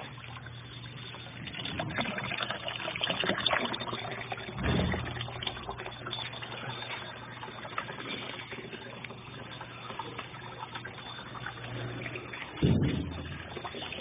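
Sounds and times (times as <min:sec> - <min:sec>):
steady low hum: 0:00.0 - 0:14.0
water sloshing in washing machine: 0:00.0 - 0:14.0.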